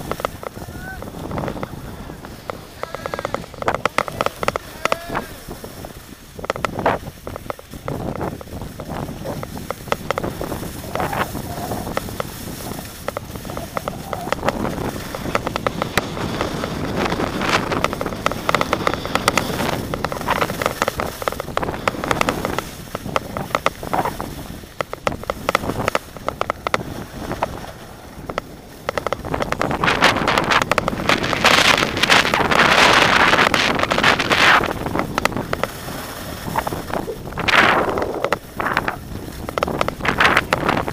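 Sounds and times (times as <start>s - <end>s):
skis scraping packed snow: 0.0s - 40.9s
wind on camera microphone: 0.0s - 40.9s.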